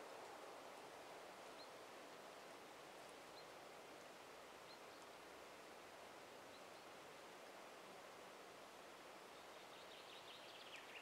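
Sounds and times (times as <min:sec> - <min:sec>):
soft forest hiss: 0:00.0 - 0:11.0.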